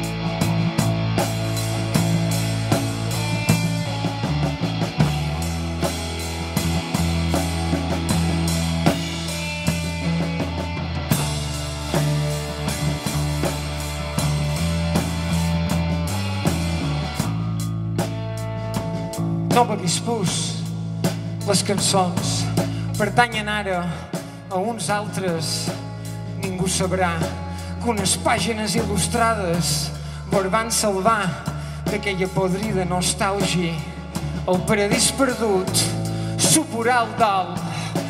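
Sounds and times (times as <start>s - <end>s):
drum kit: 0.0s - 38.0s
electric guitar: 0.0s - 38.0s
low bass notes: 0.0s - 38.0s.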